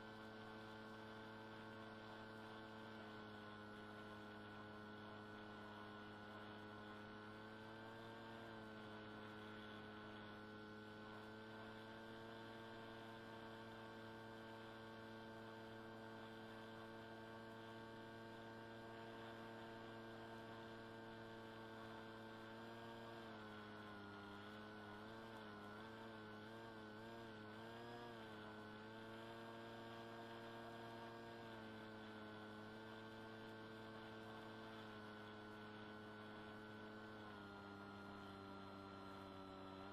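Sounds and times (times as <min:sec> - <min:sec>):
electric motor and propeller hum: 0:00.0 - 0:39.9.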